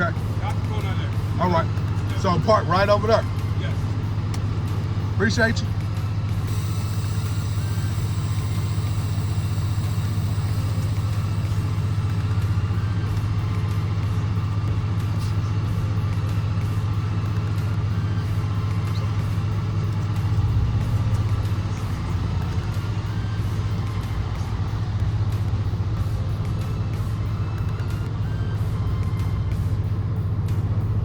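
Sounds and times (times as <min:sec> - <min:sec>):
vehicle engine and road drone: 0:00.0 - 0:31.0.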